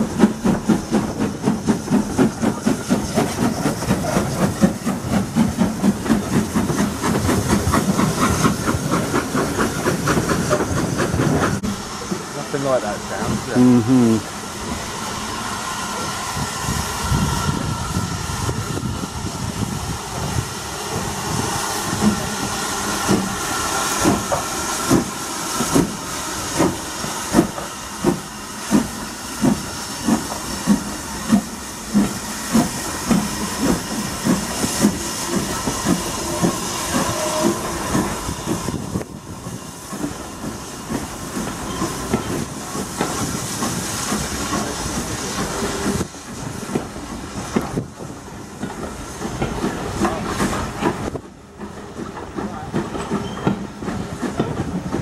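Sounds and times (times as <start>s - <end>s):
steam hissing: 0.0s - 55.0s
steam locomotive exhaust chuffing: 0.0s - 55.0s.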